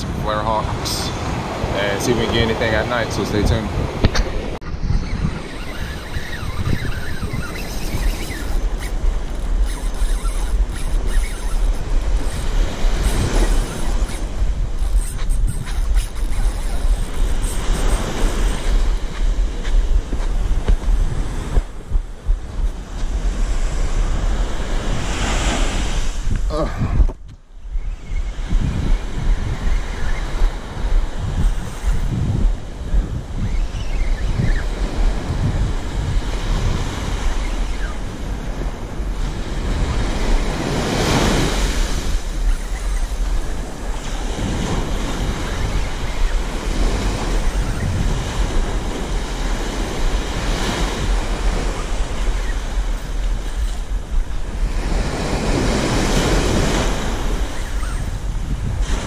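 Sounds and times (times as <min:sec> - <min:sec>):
ocean surf breaking: 0:00.0 - 0:26.4, 0:34.7 - 0:59.0
wind buffeting microphone: 0:00.0 - 0:59.0.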